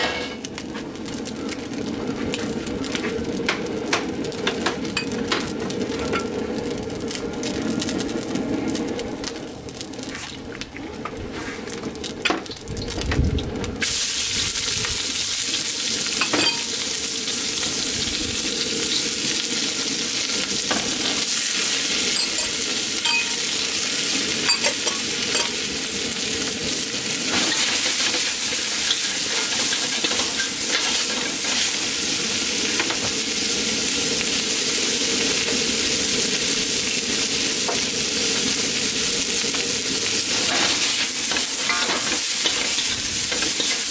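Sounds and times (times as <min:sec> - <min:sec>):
vegetables sizzling in hot oil: 0:00.0 - 0:10.5, 0:11.3 - 0:43.9.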